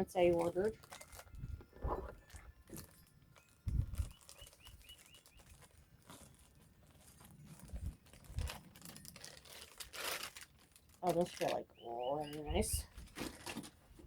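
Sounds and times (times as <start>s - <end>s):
packaging and fabric rustling: 0.0s - 11.6s, 12.2s - 14.0s.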